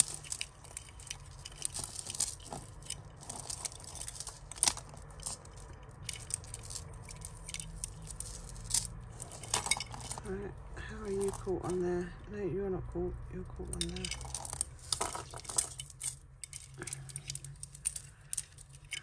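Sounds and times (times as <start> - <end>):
jewellery chains and beads clinking: 0.0 - 19.0.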